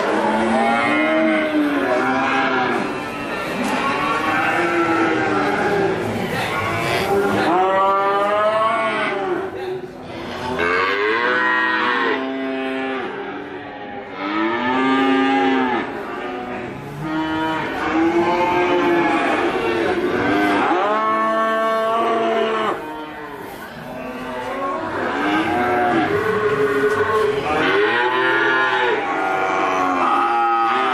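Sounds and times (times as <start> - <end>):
cattle mooing: 0.0 - 9.4, 14.0 - 23.3, 24.4 - 30.9.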